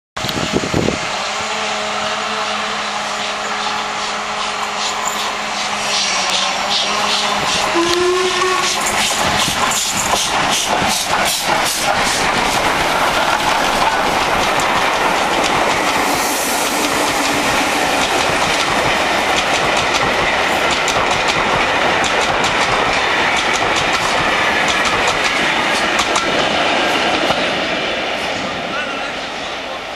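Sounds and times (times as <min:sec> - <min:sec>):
steam locomotive beats: 0:00.2 - 0:29.9
train wheels clickety-clack: 0:02.8 - 0:28.5.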